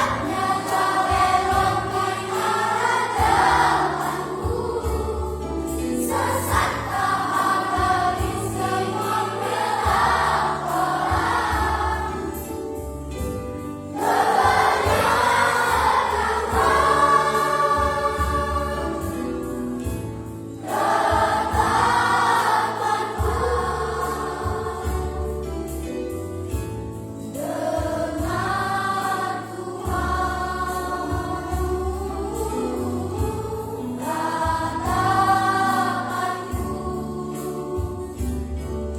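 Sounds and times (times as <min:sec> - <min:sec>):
choir singing gospel: 0:00.0 - 0:38.9
instrumental accompaniment: 0:00.0 - 0:38.9.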